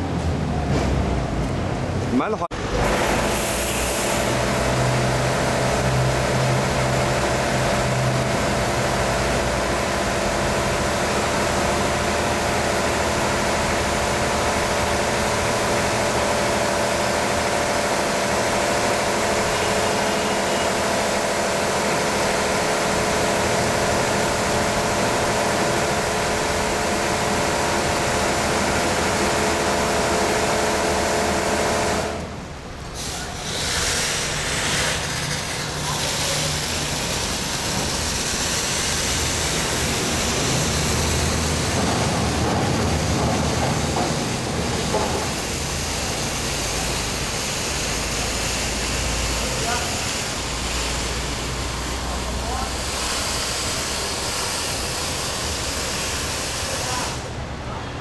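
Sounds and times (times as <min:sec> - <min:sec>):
car wash machine hum: 0:00.0 - 0:58.0
spraying water hiss: 0:02.8 - 0:57.4.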